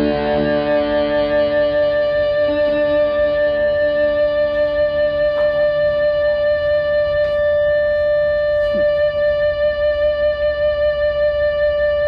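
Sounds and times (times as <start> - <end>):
guitar note ringing: 0.0 - 12.0.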